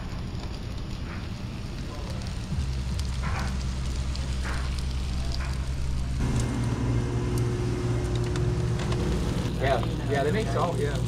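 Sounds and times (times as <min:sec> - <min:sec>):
food crackling on charcoal grill: 0:00.0 - 0:11.0
steady low hum: 0:00.0 - 0:11.0.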